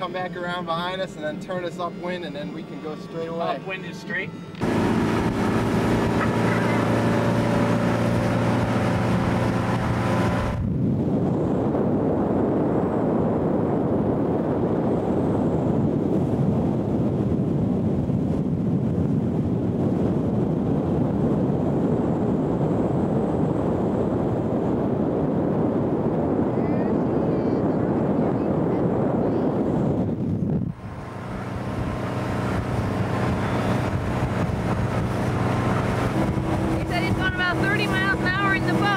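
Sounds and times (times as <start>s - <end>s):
motorboat engine drone: 0.0s - 38.9s
wind buffeting microphone: 0.0s - 38.9s.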